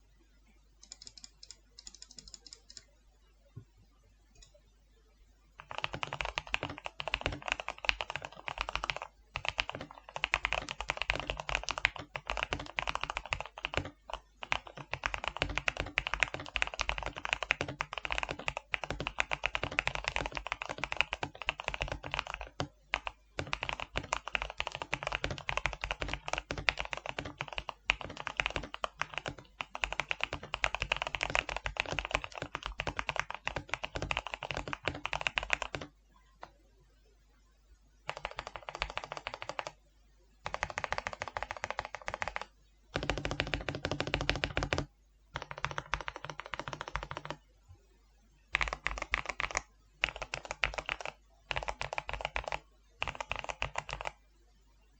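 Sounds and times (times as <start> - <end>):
mechanical keyboard typing: 0.8 - 2.8, 5.6 - 35.9, 38.1 - 39.8, 40.4 - 47.4, 48.5 - 54.2
faint keyboard clicks: 0.8 - 2.9, 5.6 - 36.6, 38.1 - 39.8, 40.4 - 47.4, 48.5 - 54.2.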